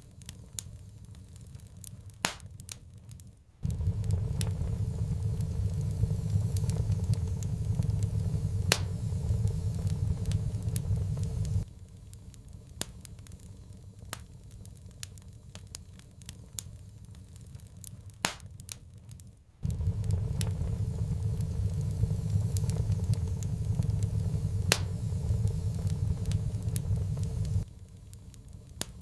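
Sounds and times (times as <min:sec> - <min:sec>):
low rumbling roar of fire: 0:00.0 - 0:29.0
wood fire crackling: 0:00.0 - 0:29.0.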